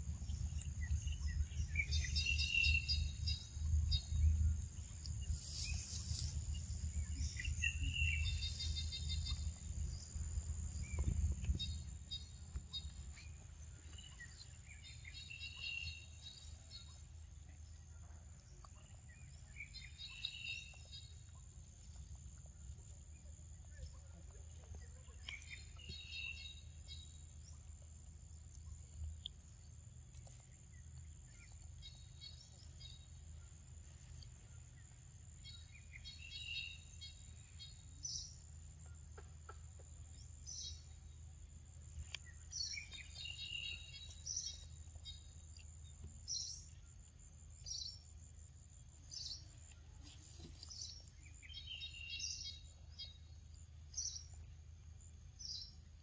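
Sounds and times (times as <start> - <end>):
low background rumble: 0.0 - 50.0.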